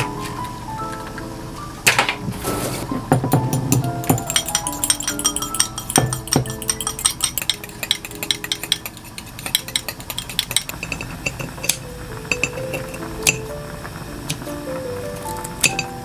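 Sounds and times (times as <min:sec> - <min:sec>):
utensils clinking against dishes: 0:01.8 - 0:13.5, 0:14.2 - 0:16.0.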